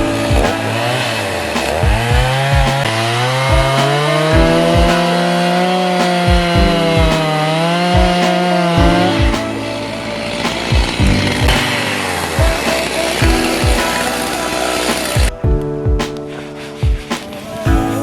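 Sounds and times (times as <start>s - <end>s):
background music with steady beat: 0.0s - 18.0s
chainsaw cutting wood: 0.2s - 15.3s.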